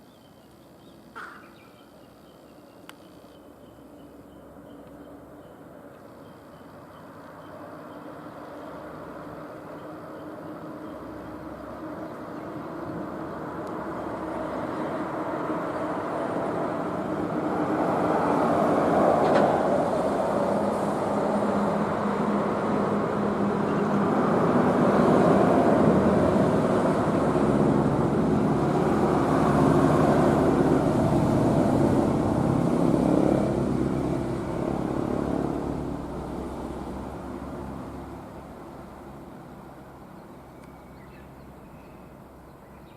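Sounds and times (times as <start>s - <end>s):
vehicles passing on highway: 0.0s - 42.9s.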